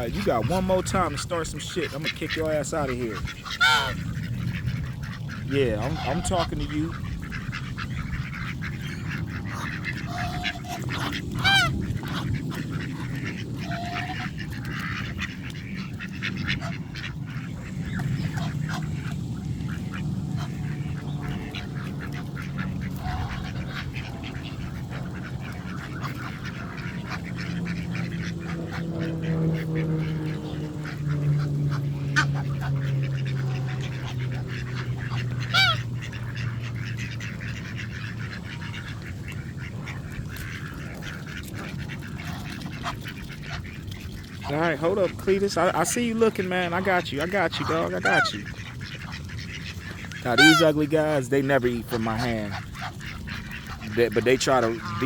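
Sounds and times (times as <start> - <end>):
ducks quacking: 0.0 - 55.0
steady low hum: 0.0 - 55.0.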